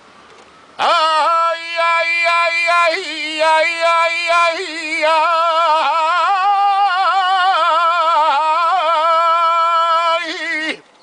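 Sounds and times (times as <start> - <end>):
person singing unaccompanied: 0.8 - 11.0.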